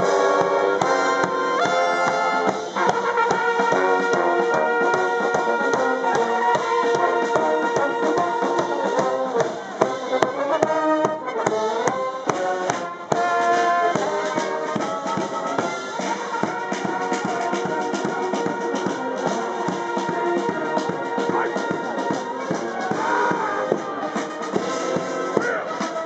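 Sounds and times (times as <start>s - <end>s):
bugles and brass band march: 0.0s - 26.0s
steady drumbeat: 0.0s - 26.0s.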